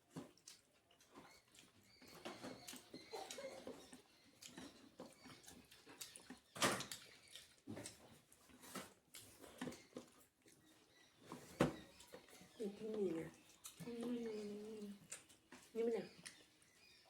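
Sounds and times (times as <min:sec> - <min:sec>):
chewing and mouth smacks: 0:00.0 - 0:17.0.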